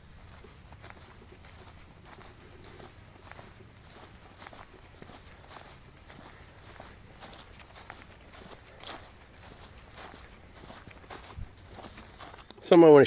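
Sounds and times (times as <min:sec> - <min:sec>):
faint ticks and rustles: 0:00.0 - 0:13.0
high-pitched insect chorus: 0:00.0 - 0:13.0.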